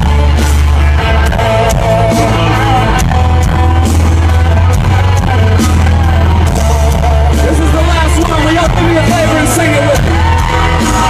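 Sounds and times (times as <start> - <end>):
held bass notes: 0.0 - 11.0
steady drum beat: 0.0 - 11.0.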